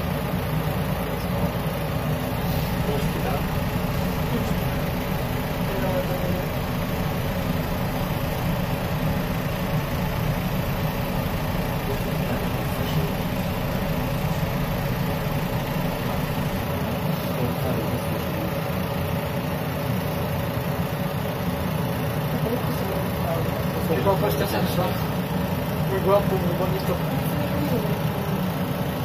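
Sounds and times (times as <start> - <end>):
elevator low rumble: 0.0 - 29.0.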